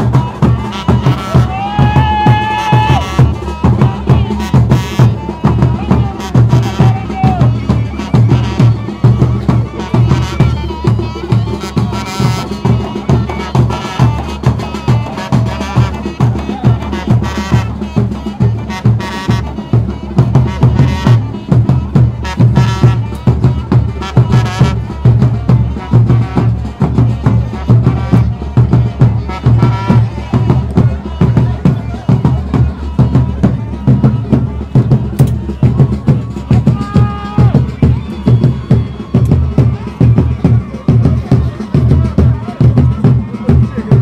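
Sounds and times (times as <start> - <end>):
drum-led music: 0.0 - 44.0.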